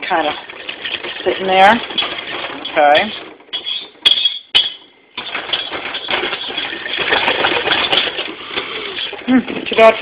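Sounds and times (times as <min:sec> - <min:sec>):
spoon stirring liquid in pan: 0:00.1 - 0:09.8.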